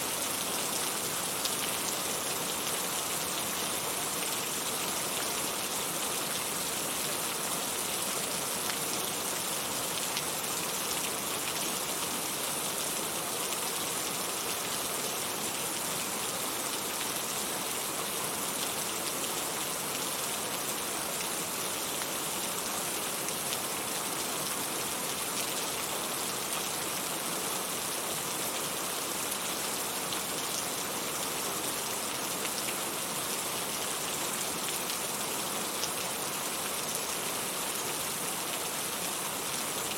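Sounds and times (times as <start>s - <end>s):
rain pattering on a surface: 0.2s - 27.2s, 28.2s - 39.9s.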